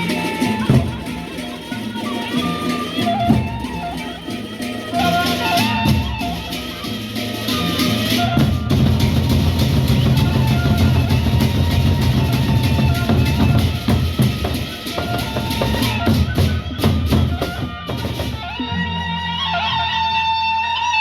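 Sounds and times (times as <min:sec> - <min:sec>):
large drums beaten fast: 0:00.0 - 0:18.7
metal percussion clashing: 0:00.0 - 0:18.8.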